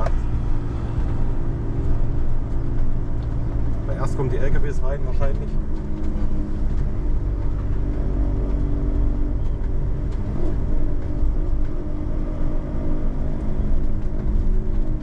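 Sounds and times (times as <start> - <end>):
diesel engine running: 0.0 - 15.0
tyre and road rumble: 0.0 - 15.0.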